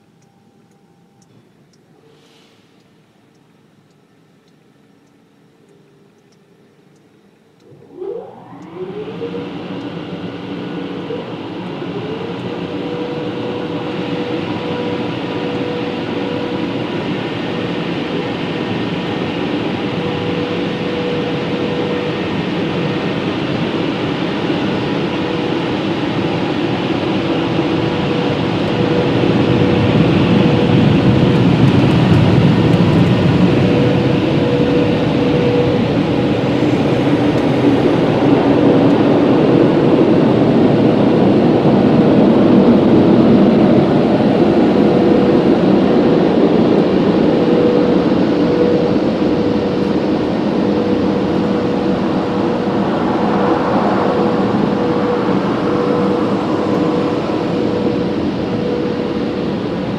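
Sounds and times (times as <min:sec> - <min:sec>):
car wash dryer blowers: 0:07.6 - 0:59.9.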